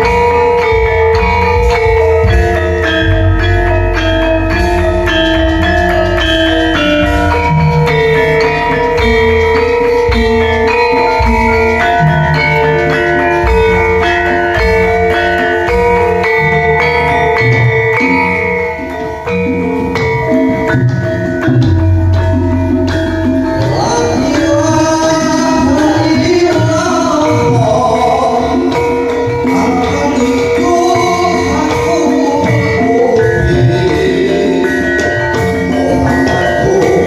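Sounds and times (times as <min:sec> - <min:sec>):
metallophone and gong-chime notes: 0:00.0 - 0:37.0.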